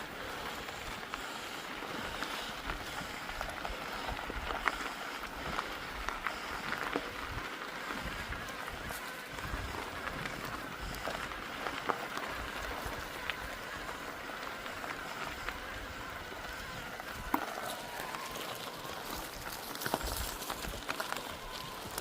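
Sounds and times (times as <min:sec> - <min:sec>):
bike clicks and rattles: 0:00.0 - 0:22.0
bike rolling over trail: 0:00.0 - 0:22.0.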